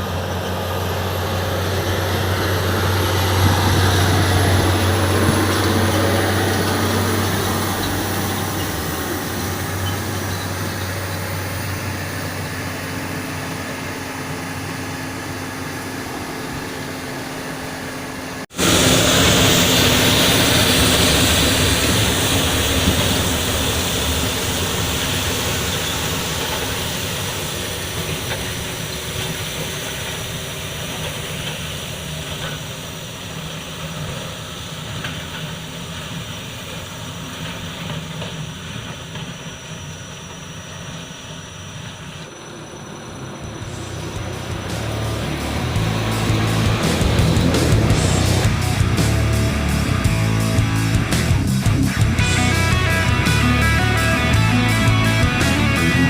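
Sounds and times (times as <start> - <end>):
broad rushing noise: 0.0 - 39.2, 39.8 - 56.0
heavy truck engine hum: 0.0 - 56.0.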